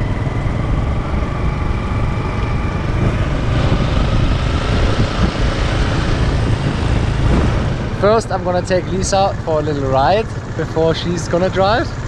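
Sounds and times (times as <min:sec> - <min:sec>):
wind buffeting microphone: 0:00.0 - 0:10.5
motorbike engine running: 0:00.0 - 0:12.0.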